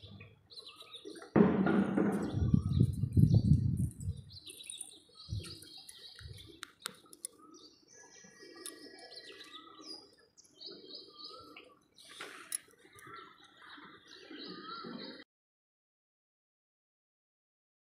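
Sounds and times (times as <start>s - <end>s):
small birds chirping: 0.0s - 15.2s.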